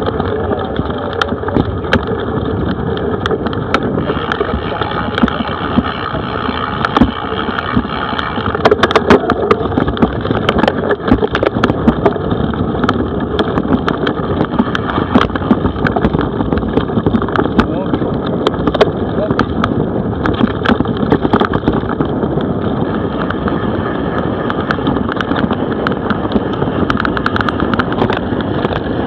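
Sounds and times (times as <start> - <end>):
bike clicking and rattling: 0.0 - 29.0
bike tyres rumbling on grass: 0.0 - 29.0
wind on microphone: 0.0 - 29.0.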